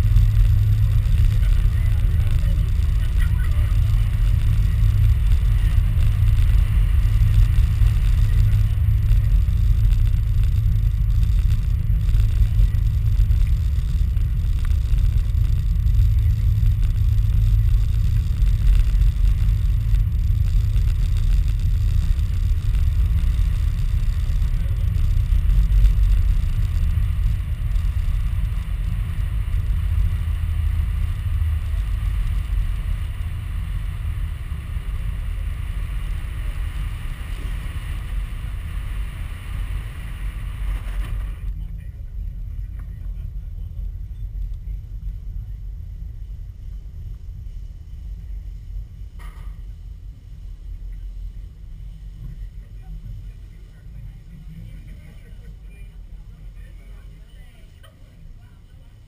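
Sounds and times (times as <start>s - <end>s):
cable car low rumble: 0.0s - 59.0s.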